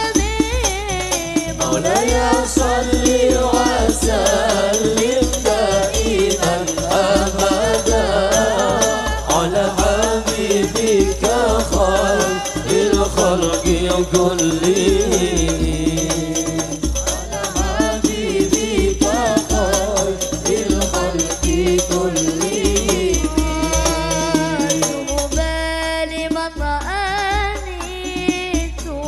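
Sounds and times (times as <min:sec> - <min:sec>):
hand percussion: 0:00.0 - 0:29.0
person singing melismatic vocals: 0:00.0 - 0:29.0.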